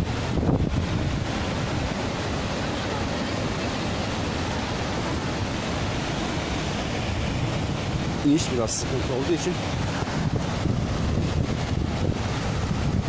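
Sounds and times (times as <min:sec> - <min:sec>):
waterfall and rocky stream rushing: 0:00.0 - 0:13.0.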